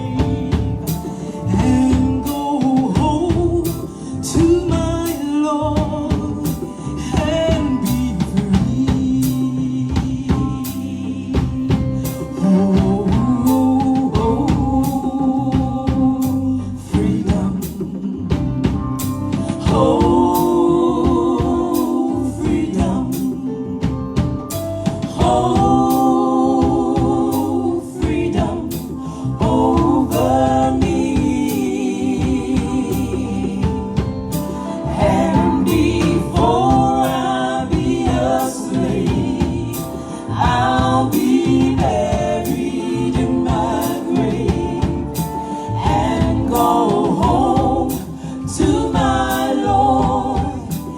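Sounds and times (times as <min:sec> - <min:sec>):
drum kit beat: 0:00.0 - 0:50.9
voices singing held notes: 0:00.0 - 0:50.9.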